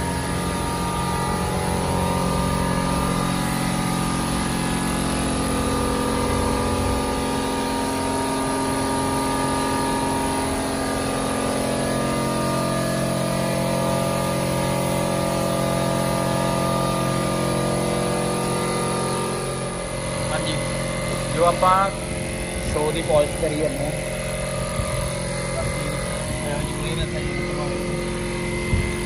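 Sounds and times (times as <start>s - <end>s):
air compressor running: 0.0s - 29.0s.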